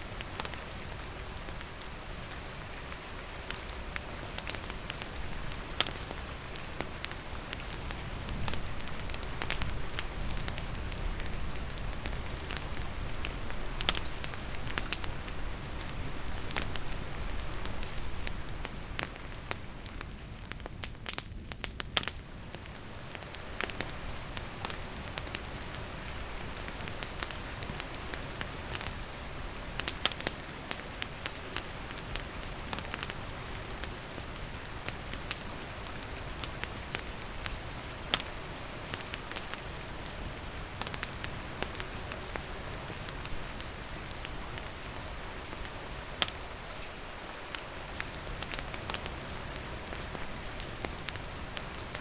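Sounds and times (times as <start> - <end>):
campfire crackling: 0.0 - 52.0
rain falling: 0.0 - 52.0.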